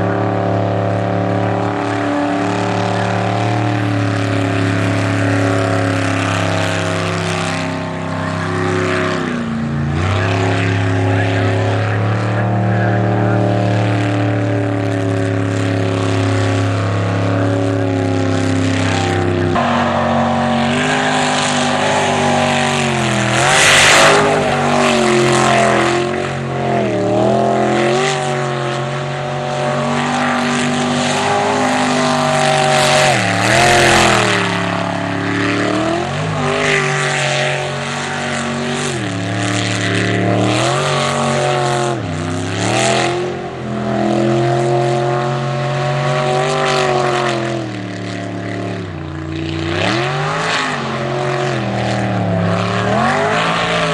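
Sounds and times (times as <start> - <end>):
boat engine revving: 0.0 - 53.9.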